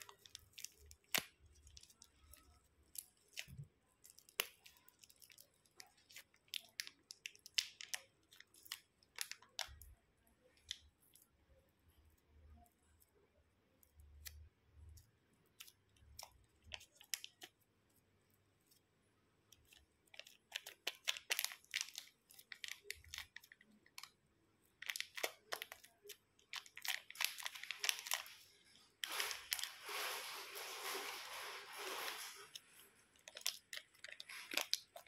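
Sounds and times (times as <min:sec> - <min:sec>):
slime crackling in a bowl: 0:00.0 - 0:13.1, 0:13.8 - 0:17.7, 0:19.5 - 0:35.0.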